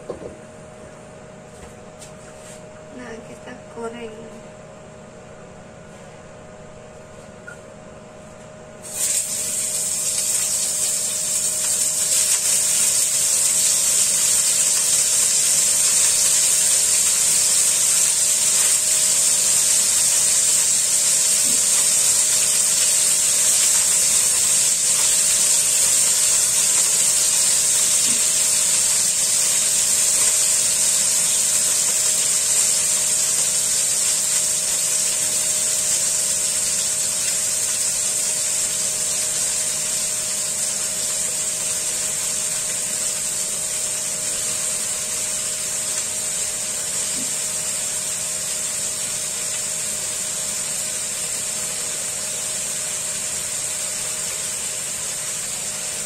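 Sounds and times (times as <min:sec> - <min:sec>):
food sizzling in a frying pan: 0:08.8 - 0:56.0.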